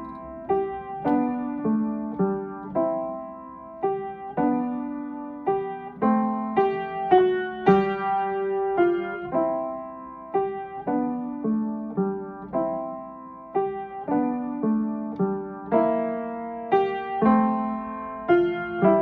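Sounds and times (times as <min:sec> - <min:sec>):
piano melody with chords: 0:00.0 - 0:19.0.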